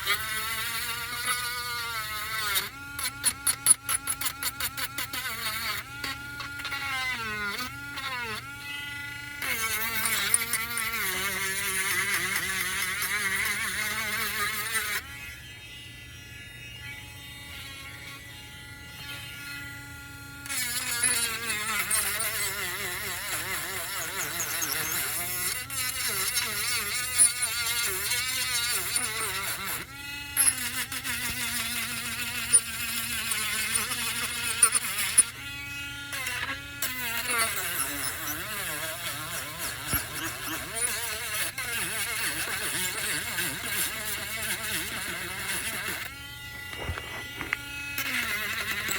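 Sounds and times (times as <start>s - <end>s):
electric sander motor buzzing: 0.0s - 48.9s.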